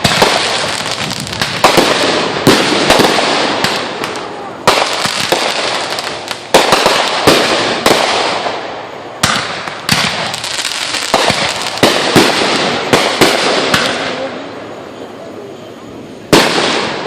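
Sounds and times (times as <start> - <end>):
firework bangs: 0.0 - 15.0, 15.8 - 17.0
firework crackling: 0.0 - 17.0.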